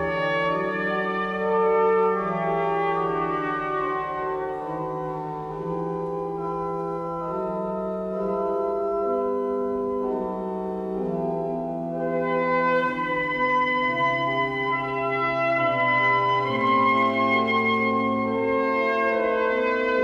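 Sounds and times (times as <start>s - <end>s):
pipe organ sustained chords: 0.0s - 20.0s.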